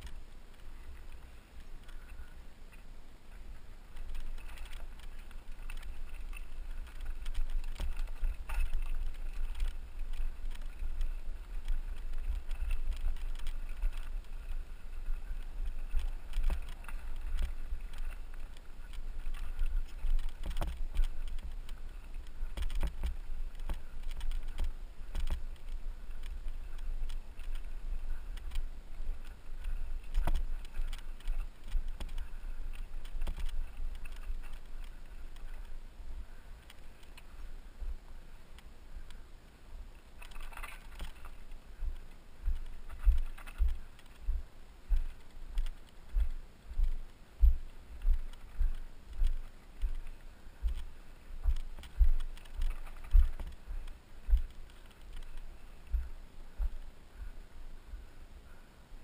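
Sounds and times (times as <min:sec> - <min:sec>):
crunches and clicks on stones: 0:00.0 - 0:02.9, 0:03.5 - 0:39.2, 0:39.9 - 0:57.3.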